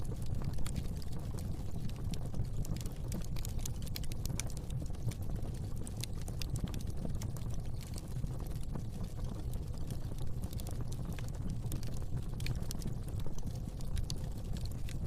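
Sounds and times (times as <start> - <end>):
fire pops and snaps: 0.0 - 15.0
low rumble of flames: 0.0 - 15.0.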